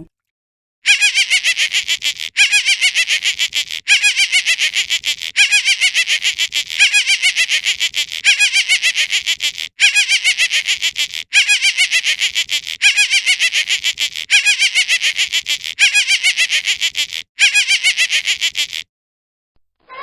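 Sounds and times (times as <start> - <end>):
high-pitched animal chattering: 0.9 - 18.9.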